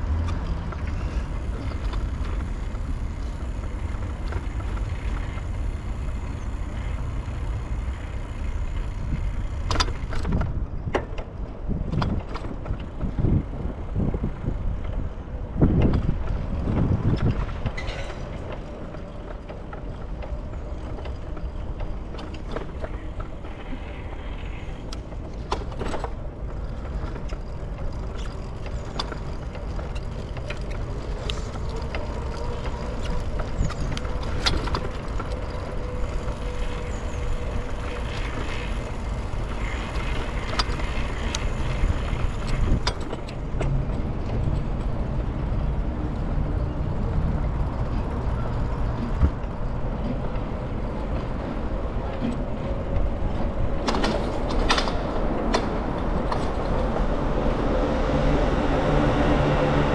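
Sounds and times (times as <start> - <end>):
bicycle rattles and clicks: 0.0 - 59.9
road and wind rumble: 0.0 - 59.9.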